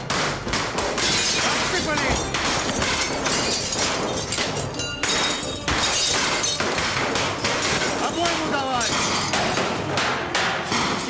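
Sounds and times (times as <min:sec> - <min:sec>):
pistol shots: 0:00.1 - 0:11.0
glass shattering: 0:00.8 - 0:09.8.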